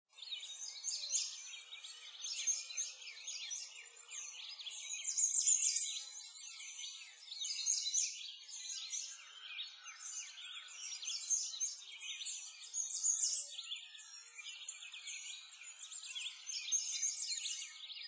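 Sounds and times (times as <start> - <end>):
chorus of small birds chirping: 0.1 - 18.0.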